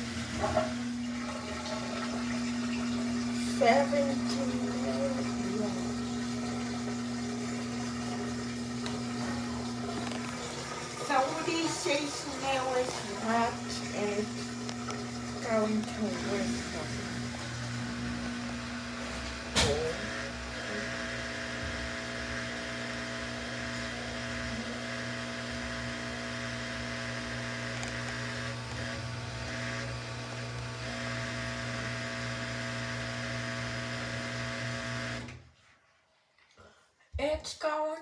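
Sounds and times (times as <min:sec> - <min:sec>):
washing machine motor hum: 0:00.0 - 0:35.6.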